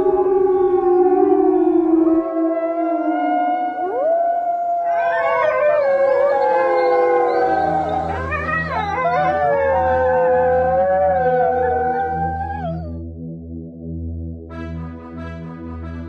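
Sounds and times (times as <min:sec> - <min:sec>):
dogs howling: 0:00.0 - 0:13.0
low steady drone: 0:00.0 - 0:14.5.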